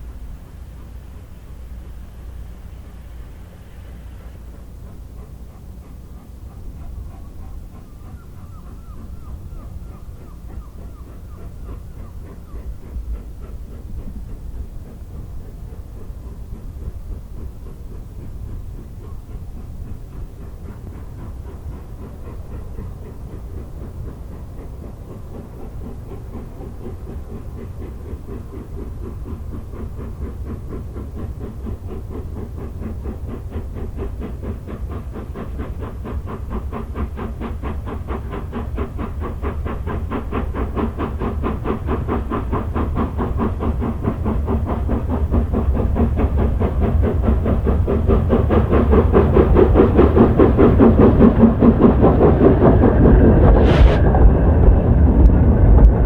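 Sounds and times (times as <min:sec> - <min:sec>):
steam train approaching: 0:00.0 - 0:56.0.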